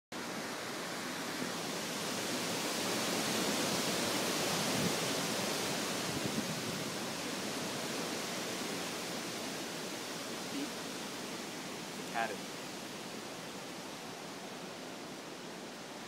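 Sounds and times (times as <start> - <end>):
strong wind blowing through trees: 0.1 - 16.0.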